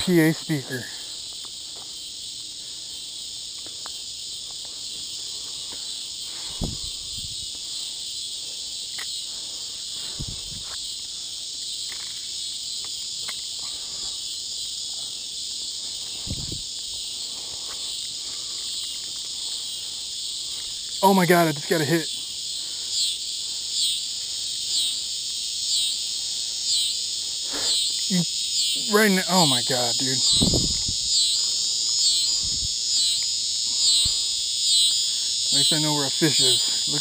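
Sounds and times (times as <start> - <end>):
cicada buzzing: 0.0 - 37.0.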